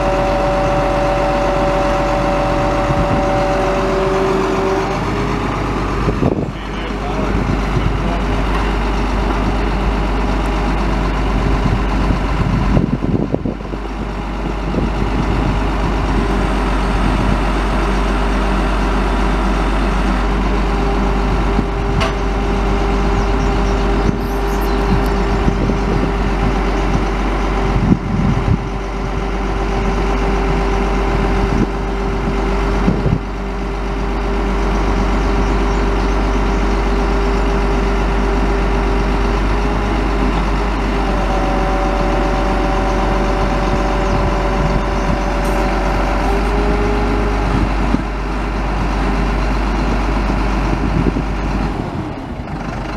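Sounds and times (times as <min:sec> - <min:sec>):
steady whine: 0:00.0 - 0:52.3
diesel engine running: 0:00.0 - 0:52.9.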